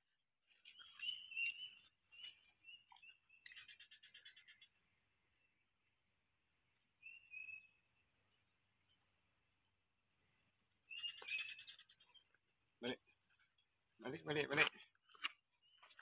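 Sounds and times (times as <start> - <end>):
insects trilling: 0.5 - 15.0.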